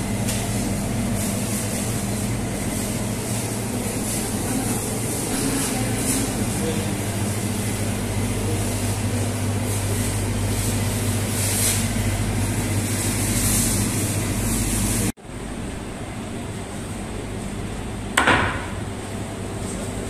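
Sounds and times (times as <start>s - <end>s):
freezer hum and whir: 0.0s - 20.0s.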